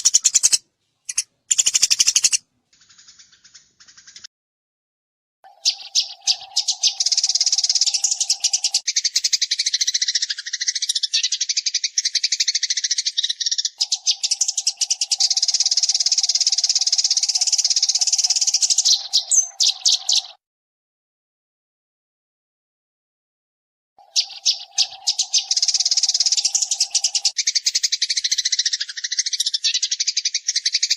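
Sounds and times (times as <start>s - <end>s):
sparrows chirping: 0.0s - 4.3s, 5.5s - 20.4s, 24.0s - 30.9s.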